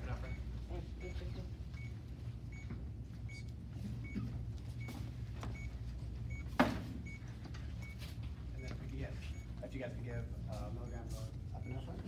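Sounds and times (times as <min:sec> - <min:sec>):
medical monitor beeps: 0:00.0 - 0:12.0
steady low hum: 0:00.0 - 0:12.0.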